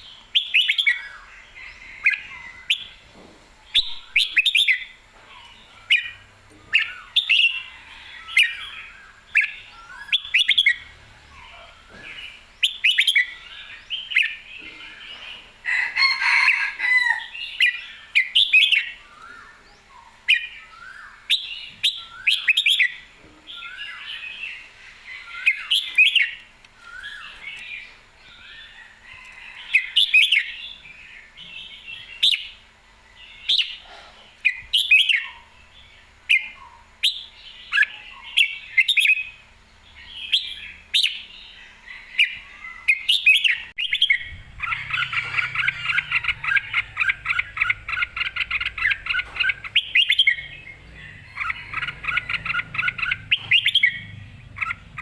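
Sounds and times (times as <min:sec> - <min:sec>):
bird singing warbled phrases: 0:00.0 - 0:03.0, 0:03.6 - 0:15.5, 0:16.3 - 0:28.9, 0:29.8 - 0:55.0.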